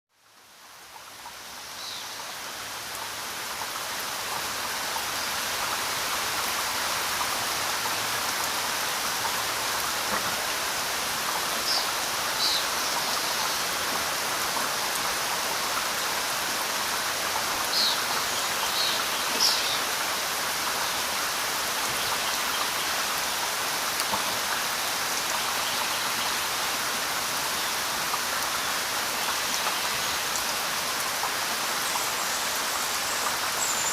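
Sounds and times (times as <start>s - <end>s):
river water rushing: 1.8s - 33.9s.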